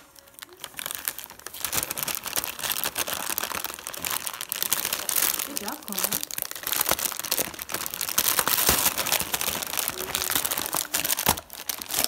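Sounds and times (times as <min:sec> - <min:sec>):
foil wrap crinkling and tearing: 0:00.0 - 0:12.0.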